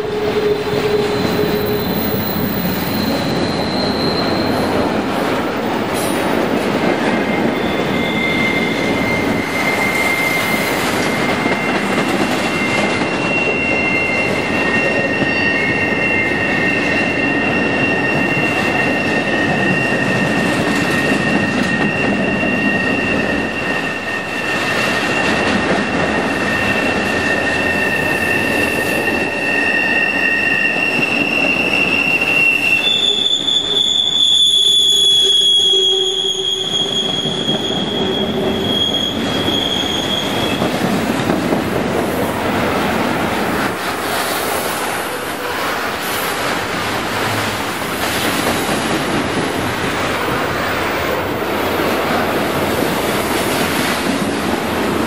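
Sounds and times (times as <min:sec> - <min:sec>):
high-pitched wheel squeals: 0:00.0 - 0:54.3
freight train rumbling past: 0:00.0 - 0:55.0.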